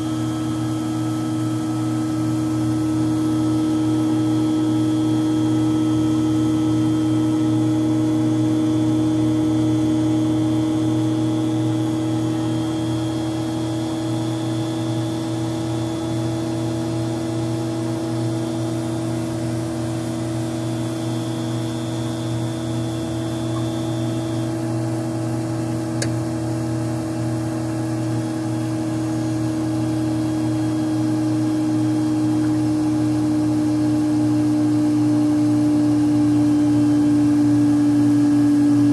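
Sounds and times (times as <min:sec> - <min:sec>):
centrifuge humming and whining: 0:00.0 - 0:38.9.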